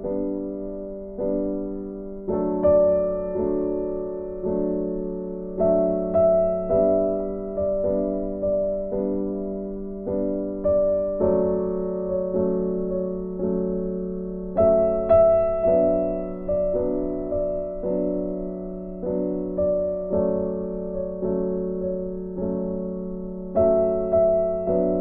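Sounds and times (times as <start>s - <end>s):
soft piano chords: 0.0s - 25.0s.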